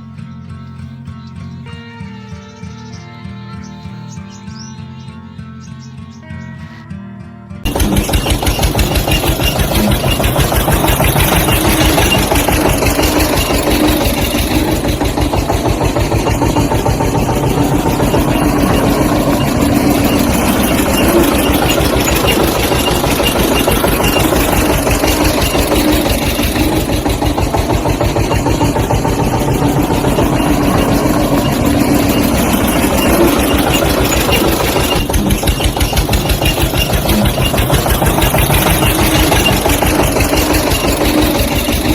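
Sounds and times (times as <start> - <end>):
small engine running: 0.0 - 6.8, 7.6 - 41.9.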